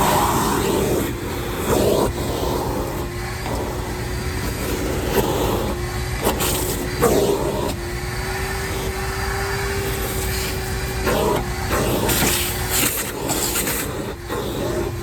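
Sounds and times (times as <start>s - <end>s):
shop vac motor whine: 0.0s - 15.0s.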